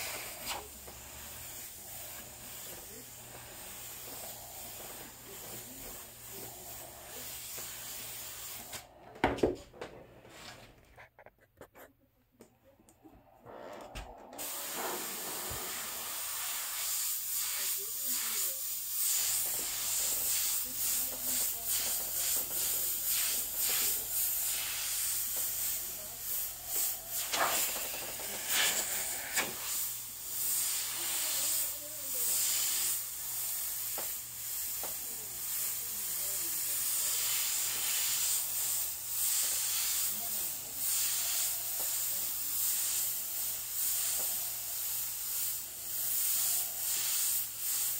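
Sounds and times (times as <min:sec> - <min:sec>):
airbrush spraying hiss: 0:00.0 - 0:09.0, 0:14.2 - 0:47.9.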